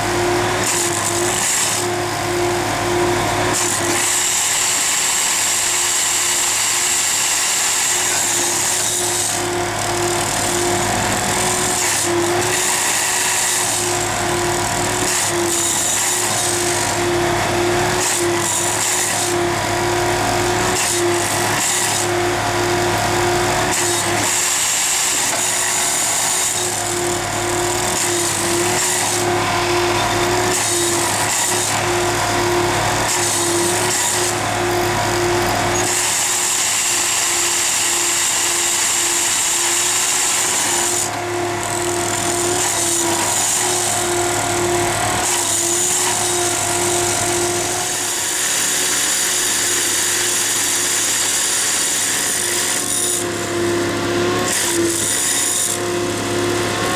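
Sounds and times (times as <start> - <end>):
track-tamping machine droning: 0.0 - 56.9.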